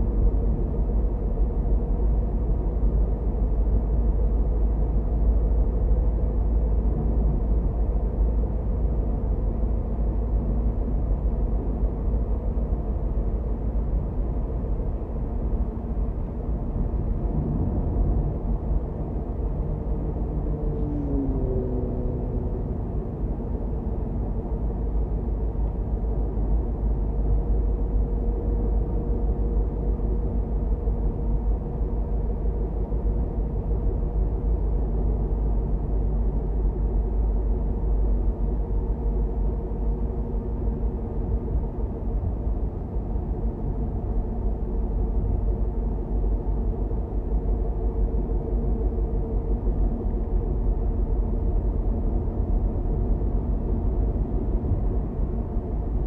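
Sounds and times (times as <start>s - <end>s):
car road and engine rumble: 0.0s - 56.0s
faint steady hum: 0.0s - 56.0s.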